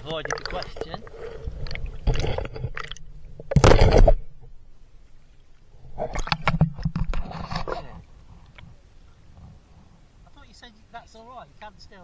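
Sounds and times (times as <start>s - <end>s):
water splashing and sloshing: 0.0s - 10.1s.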